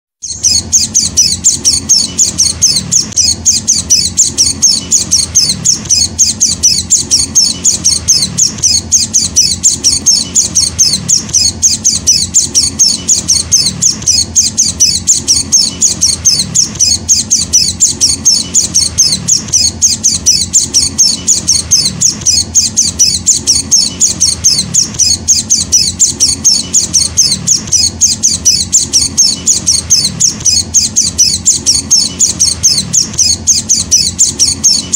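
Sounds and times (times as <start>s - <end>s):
bird chick calling: 0.2s - 34.9s.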